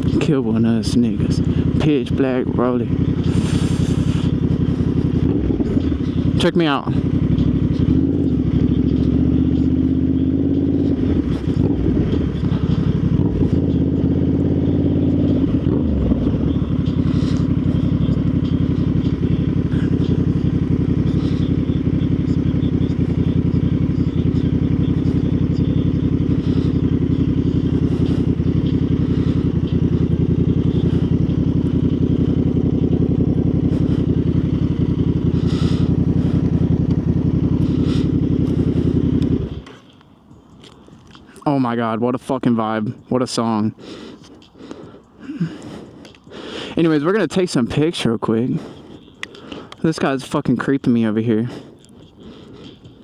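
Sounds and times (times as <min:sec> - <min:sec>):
motorcycle engine running: 0:00.0 - 0:40.6, 0:44.4 - 0:53.0.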